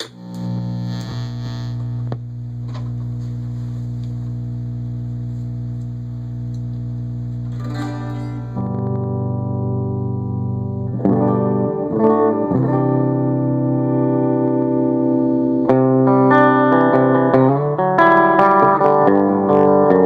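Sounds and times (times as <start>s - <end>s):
electric guitar chord ringing: 0.0s - 20.0s.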